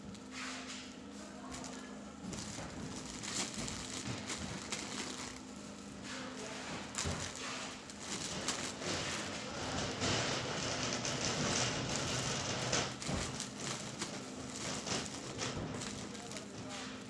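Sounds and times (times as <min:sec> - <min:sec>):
low machine hum: 0:00.0 - 0:17.0
plastic wrapping crinkling: 0:00.0 - 0:17.0.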